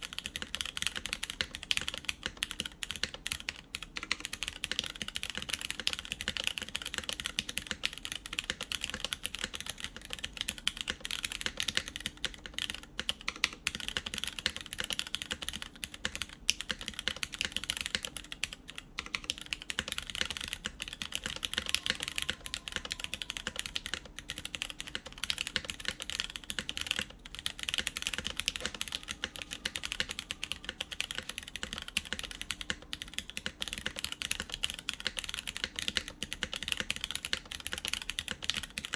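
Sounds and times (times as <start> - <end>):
fast typing on mechanical keyboard: 0.0 - 38.9
keycaps clacking: 0.0 - 38.9.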